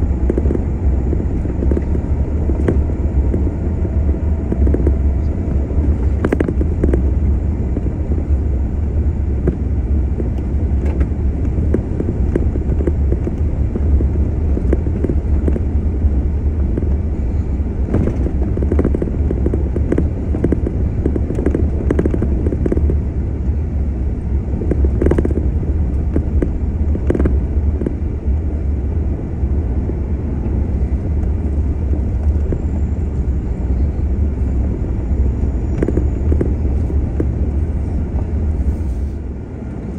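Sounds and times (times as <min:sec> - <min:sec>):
vehicle driving on gravel: 0:00.0 - 0:39.9.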